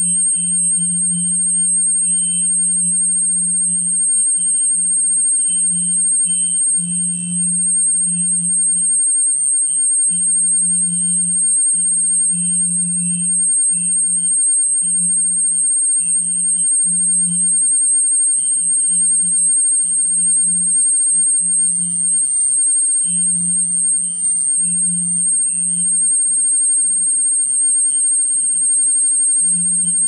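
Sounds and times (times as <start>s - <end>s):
high-pitched electronic whine: 0.0s - 30.0s
low electronic hum: 0.0s - 30.0s.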